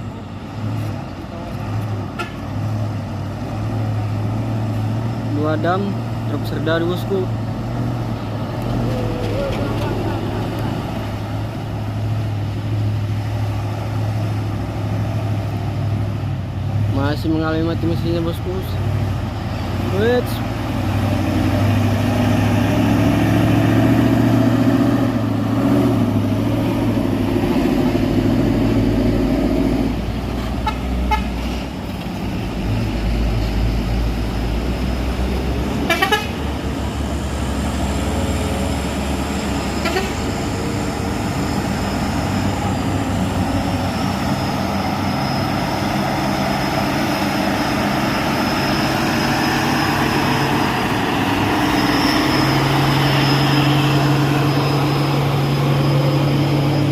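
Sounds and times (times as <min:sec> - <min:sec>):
heavy truck engines climbing: 0:00.0 - 0:56.9.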